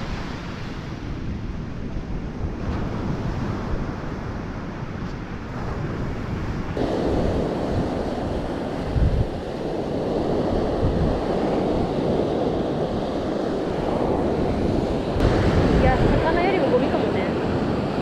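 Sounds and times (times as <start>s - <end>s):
sea surf washing on shore: 0.0s - 18.0s
wind buffeting microphone: 0.0s - 18.0s.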